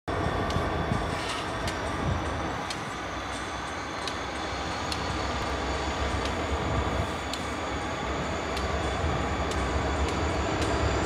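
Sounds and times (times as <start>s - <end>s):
diesel locomotive engine rumble: 0.1s - 11.0s.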